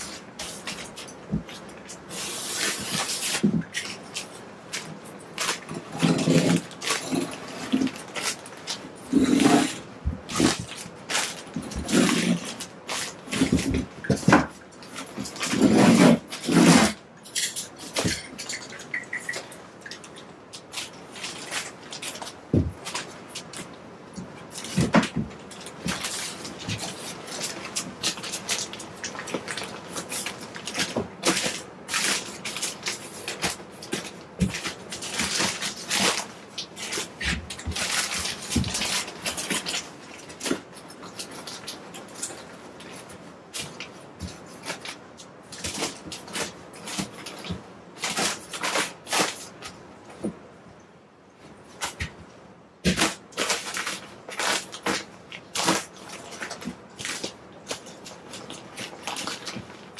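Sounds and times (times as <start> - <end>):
paper crinkling and rustling: 0.0 - 50.4, 51.6 - 59.9.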